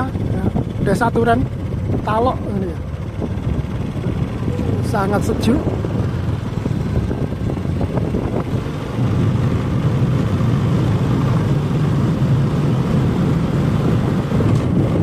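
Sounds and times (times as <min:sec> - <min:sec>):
road and wind noise: 0:00.0 - 0:15.0
vehicle engine rumbling: 0:00.0 - 0:15.0.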